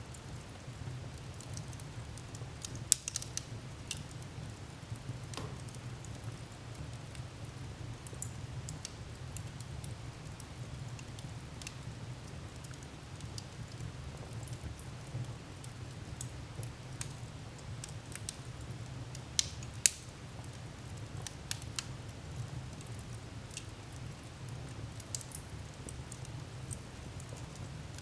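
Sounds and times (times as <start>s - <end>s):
fire crackling in a fireplace: 0.0s - 28.0s.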